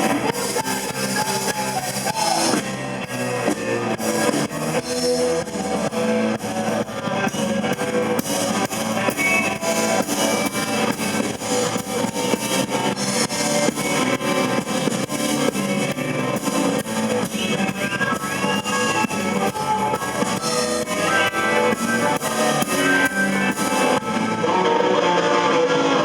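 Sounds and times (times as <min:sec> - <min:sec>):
drum kit beat: 0:00.0 - 0:24.8
blues-rock band playing: 0:00.0 - 0:26.0
electric guitar: 0:00.0 - 0:26.0.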